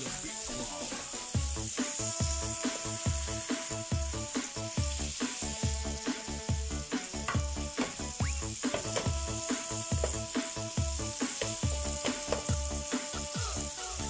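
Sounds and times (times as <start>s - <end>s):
background music with a beat: 0.0s - 14.0s
fish sizzling in a pan: 0.0s - 14.0s.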